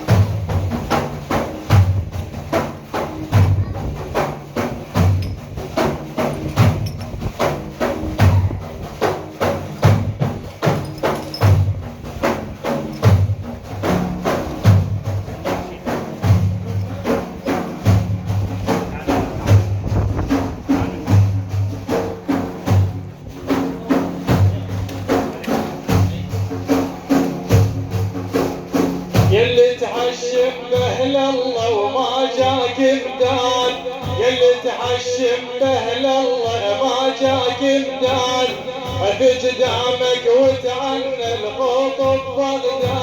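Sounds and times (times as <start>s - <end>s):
hand percussion rhythm: 0.0s - 43.0s.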